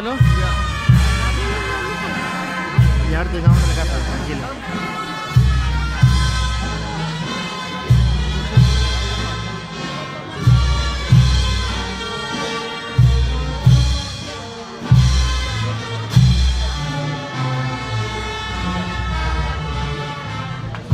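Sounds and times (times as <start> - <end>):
bass drum beats: 0.0 - 12.4, 13.0 - 18.0
wind instruments melody: 0.0 - 20.9.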